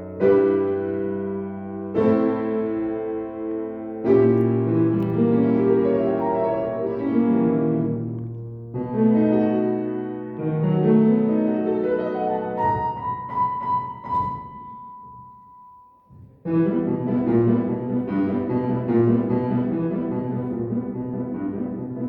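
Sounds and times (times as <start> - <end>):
violin and piano classical music: 0.0 - 14.6, 16.5 - 22.0.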